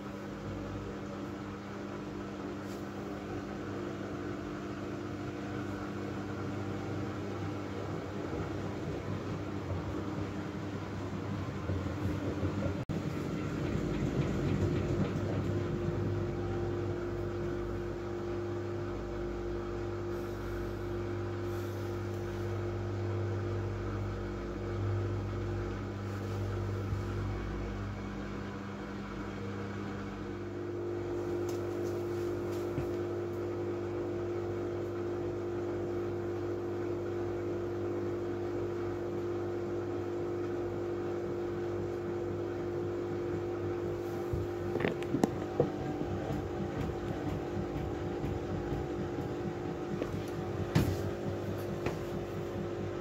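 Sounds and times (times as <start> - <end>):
washing machine running: 0.0 - 53.0.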